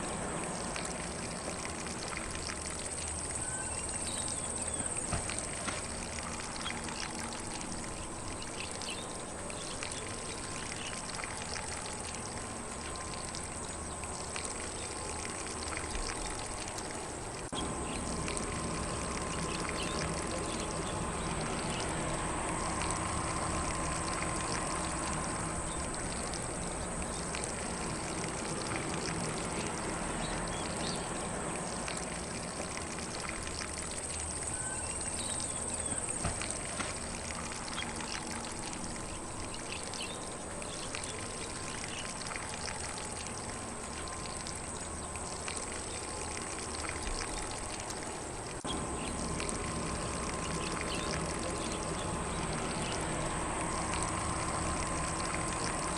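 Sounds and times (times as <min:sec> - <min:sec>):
faint birdsong: 0:00.0 - 0:55.9
lawn sprinkler spraying water: 0:00.0 - 0:55.9.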